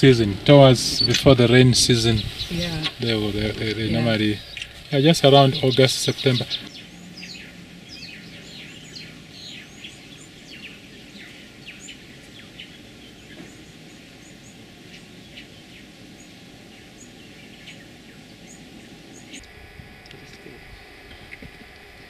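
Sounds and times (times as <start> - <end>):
birds chirping: 0.0 - 19.5
outdoor background hiss: 0.0 - 22.0.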